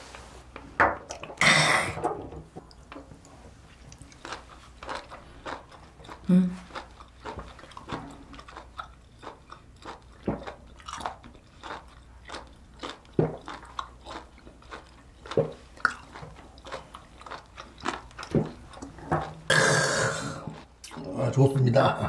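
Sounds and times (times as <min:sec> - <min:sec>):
wet chewing mouth clicks: 0:02.7 - 0:21.2.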